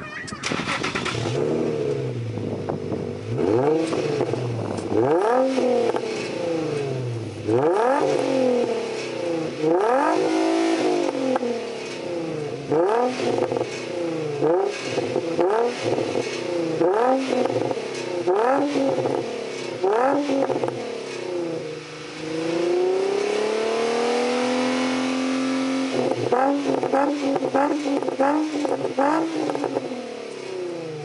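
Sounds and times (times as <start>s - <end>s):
car engine revving: 0.4s - 31.0s.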